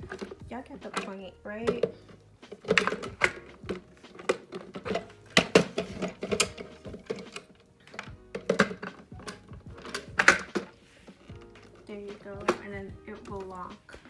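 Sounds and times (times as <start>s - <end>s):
plastic parts clicking and knocking: 0.0s - 14.0s.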